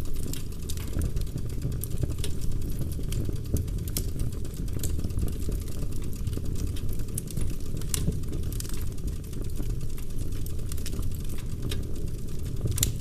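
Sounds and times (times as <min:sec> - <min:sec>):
fire burning in fireplace: 0:00.0 - 0:13.0
wood crackling and popping: 0:00.0 - 0:13.0.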